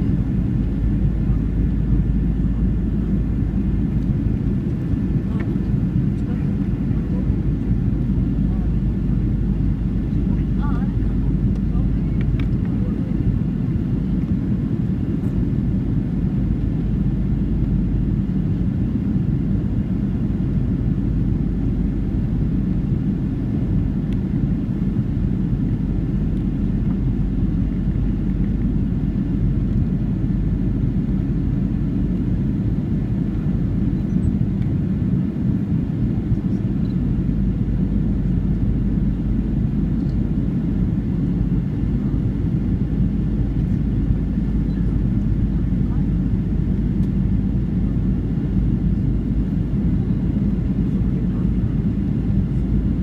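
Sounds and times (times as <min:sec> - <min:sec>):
airflow over fuselage: 0:00.0 - 0:53.0
jet engine cabin rumble: 0:00.0 - 0:53.0.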